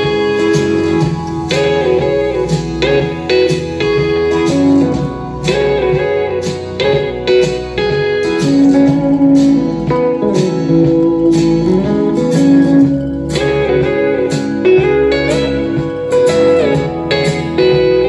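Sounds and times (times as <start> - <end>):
country guitars playing: 0.0 - 18.0
slide guitar notes bending: 0.0 - 18.0.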